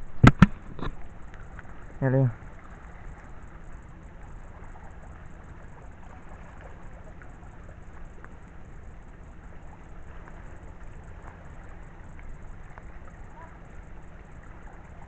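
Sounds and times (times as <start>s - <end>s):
faint ticks: 0.1s - 15.0s.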